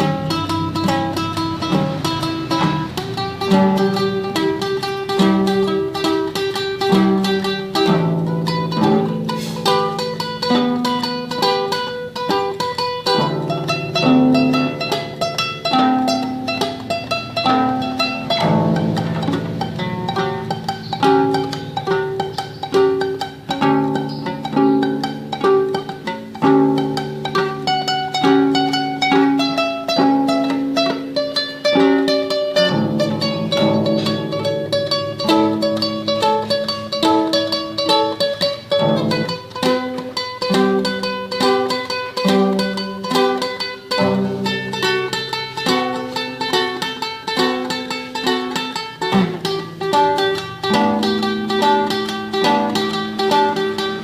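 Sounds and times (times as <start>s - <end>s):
classical guitar tremolo melody: 0.0s - 54.0s.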